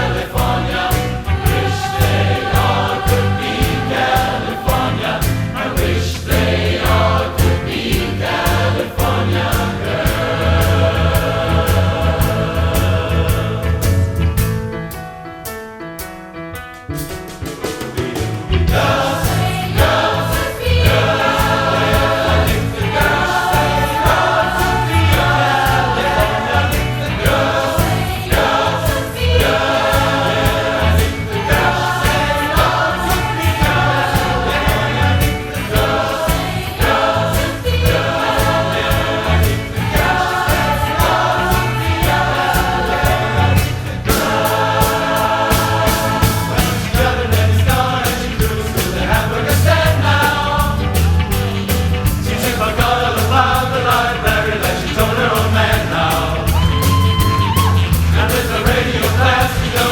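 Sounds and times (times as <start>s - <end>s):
choir singing pop song: 0.0s - 14.5s, 17.7s - 59.9s
steady low beat: 0.0s - 14.8s, 18.5s - 59.9s.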